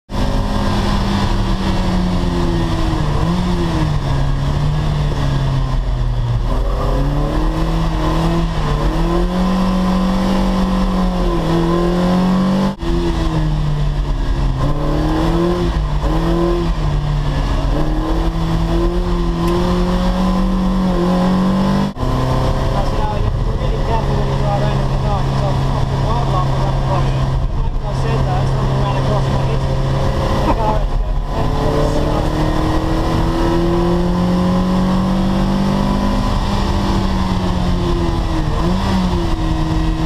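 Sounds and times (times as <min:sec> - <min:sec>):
car engine revving: 0:00.1 - 0:40.0.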